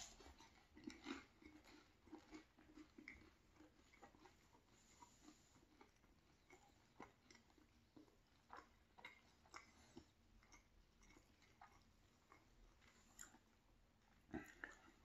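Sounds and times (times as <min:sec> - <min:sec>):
chewing with wet mouth clicks: 0:00.0 - 0:15.0.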